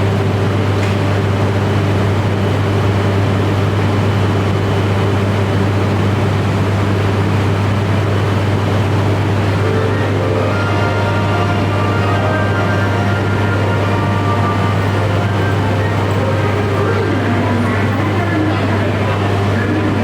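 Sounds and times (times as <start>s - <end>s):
train electric hum: 0.0s - 20.0s.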